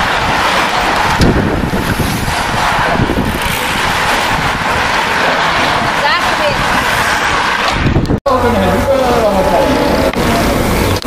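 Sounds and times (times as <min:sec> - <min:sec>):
wind buffeting microphone: 0:00.0 - 0:08.9
road bicycles passing: 0:00.0 - 0:11.0.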